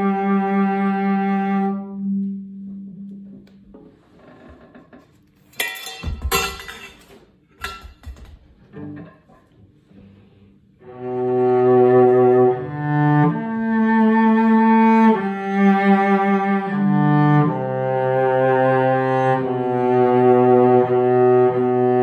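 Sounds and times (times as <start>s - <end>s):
bowed cello notes: 0.0s - 5.1s, 8.7s - 22.0s.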